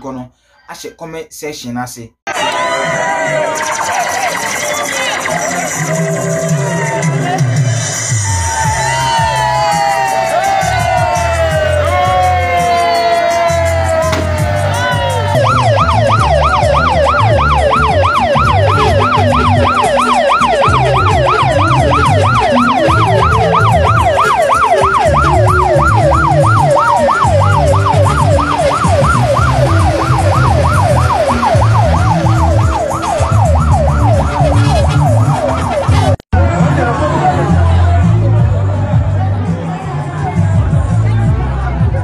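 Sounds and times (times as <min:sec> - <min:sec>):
electronic siren yelping: 0:02.3 - 0:36.2.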